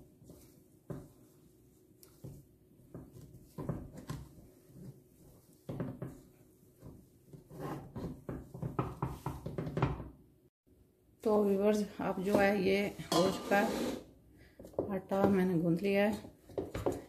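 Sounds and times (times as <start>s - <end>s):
dough kneading thumps in a saucepan: 0.0s - 10.4s, 12.0s - 13.3s, 14.4s - 17.0s.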